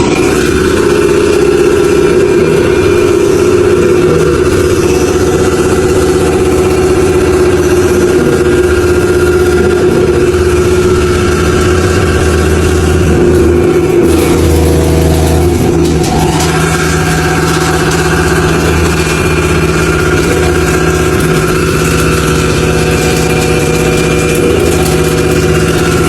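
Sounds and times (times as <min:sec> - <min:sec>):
grinder hiss: 0:00.0 - 0:26.0
grinder machine hum: 0:00.0 - 0:26.0.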